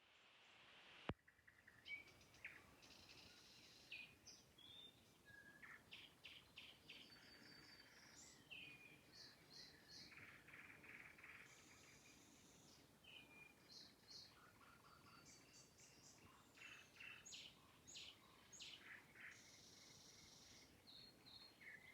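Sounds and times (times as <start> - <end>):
nightingale singing faintly: 1.3 - 21.9.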